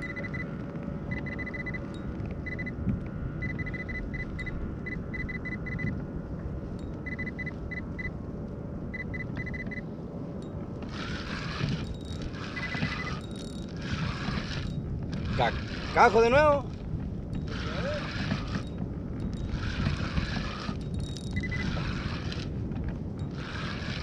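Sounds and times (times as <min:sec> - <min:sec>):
low rumble of wind and water: 0:00.0 - 0:24.0.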